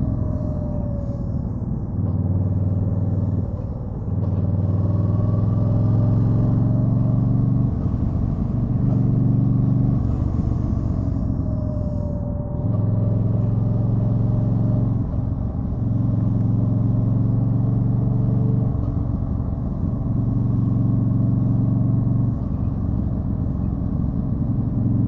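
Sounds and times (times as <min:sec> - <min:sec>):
motorcycle v-twin engine running: 0:00.0 - 0:25.0.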